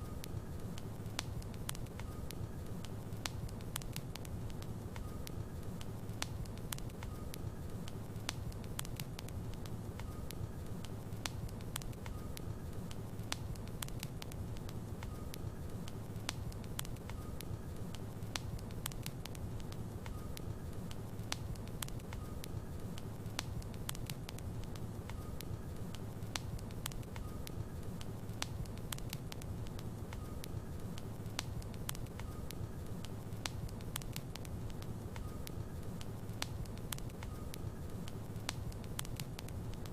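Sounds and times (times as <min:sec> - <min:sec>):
burning wood crackling and popping: 0:00.0 - 0:39.9
low rumble of fire: 0:00.0 - 0:39.9.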